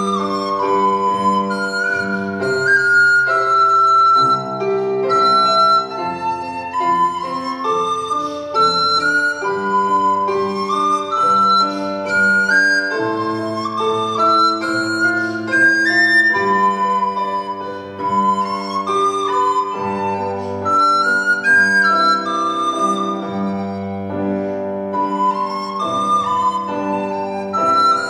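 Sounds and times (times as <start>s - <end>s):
piano chords: 0.0s - 28.0s
recorder melody: 0.0s - 28.0s.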